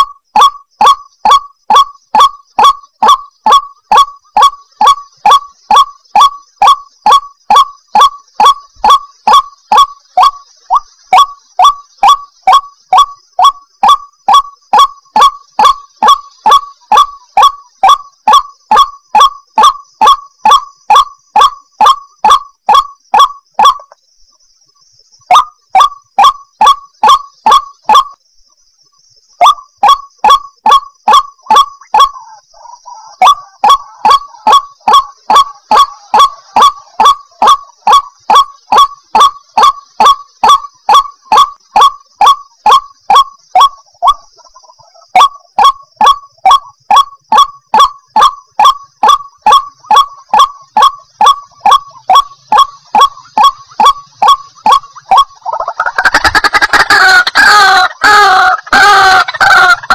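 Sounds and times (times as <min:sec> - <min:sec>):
bird calling harshly: 0:00.0 - 0:24.0, 0:29.4 - 0:59.9.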